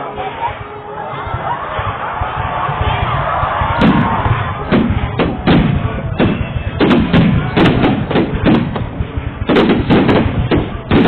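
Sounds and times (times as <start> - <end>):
fireworks booming: 1.3 - 11.0.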